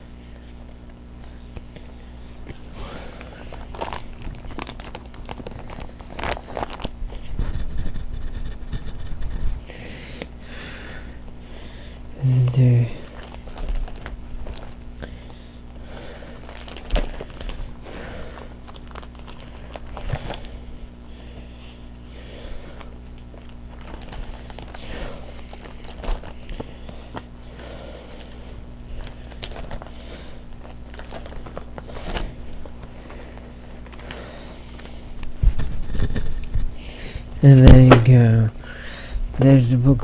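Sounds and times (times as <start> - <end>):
steady low hum: 0.0 - 40.0
wrappers crinkling and rustling: 0.1 - 9.7, 11.2 - 38.3.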